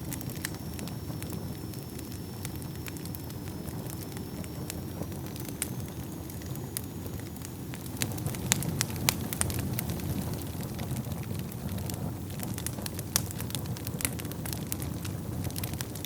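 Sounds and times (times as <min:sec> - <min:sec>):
burning wood crackling and popping: 0:00.0 - 0:16.0
flames rumbling: 0:00.0 - 0:16.0.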